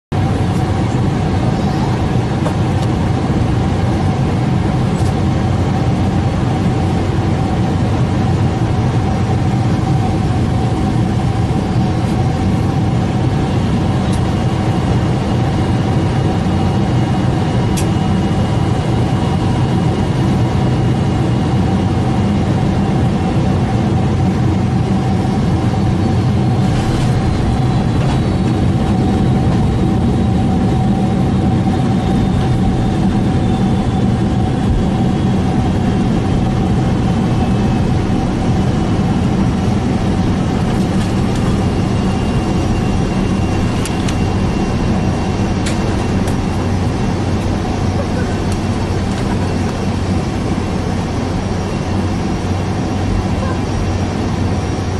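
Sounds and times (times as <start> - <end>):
jet cabin rumble with whine: 0.1 - 54.9.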